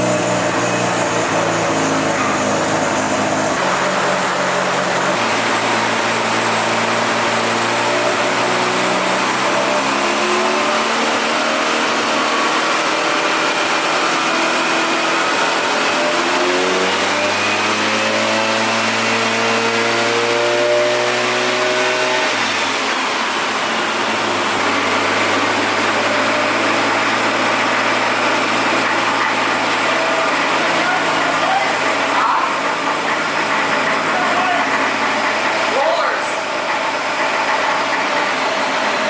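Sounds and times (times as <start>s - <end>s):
rotary engine running: 0.0s - 39.0s.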